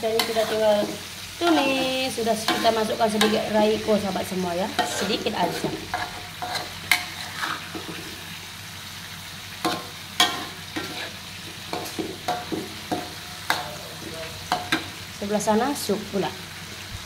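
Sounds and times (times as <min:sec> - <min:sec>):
metal spatula scraping a wok: 0:00.0 - 0:15.0
frying sizzle: 0:00.0 - 0:17.0.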